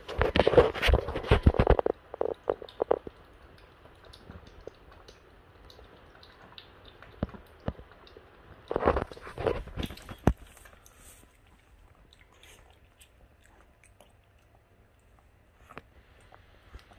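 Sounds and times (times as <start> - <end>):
dog crunching dry kibble: 0.0 - 15.8.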